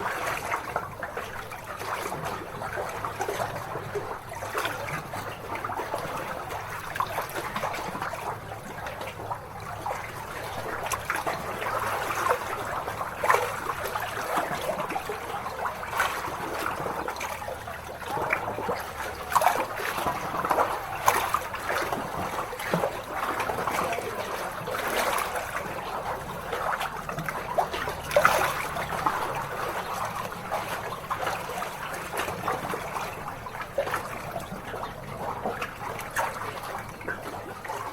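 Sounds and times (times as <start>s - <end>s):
waves lapping against shore: 0.0s - 37.9s.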